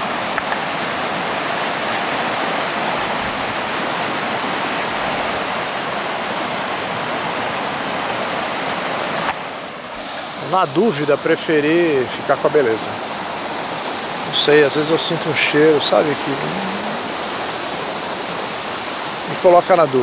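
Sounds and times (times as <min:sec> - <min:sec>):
river rushing over rapids: 0:00.0 - 0:20.0.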